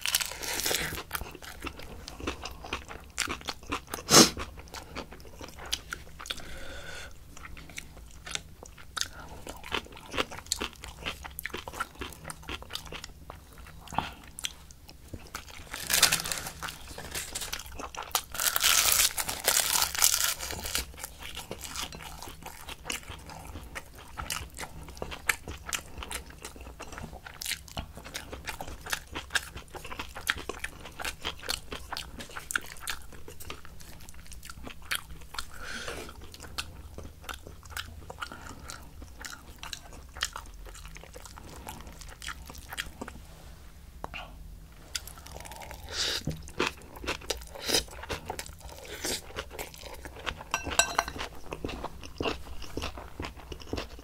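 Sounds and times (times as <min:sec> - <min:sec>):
wet chewing and crunching: 0:00.0 - 0:06.5, 0:07.3 - 0:43.2, 0:44.8 - 0:54.0.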